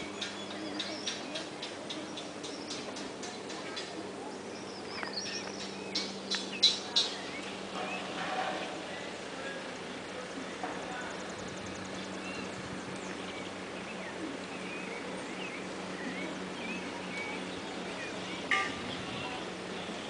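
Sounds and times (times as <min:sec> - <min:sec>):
birds chirping: 0:00.0 - 0:20.0
low hum and hiss: 0:00.0 - 0:20.0.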